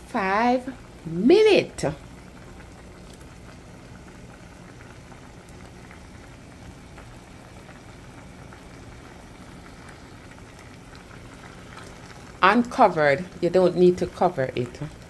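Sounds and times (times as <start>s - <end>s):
syrup bubbling in a pot: 0.0s - 15.0s.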